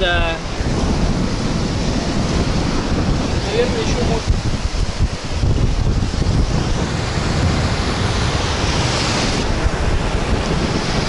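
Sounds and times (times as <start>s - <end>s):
sea waves breaking: 0.0s - 11.0s
wind rumbling on microphone: 0.0s - 11.0s.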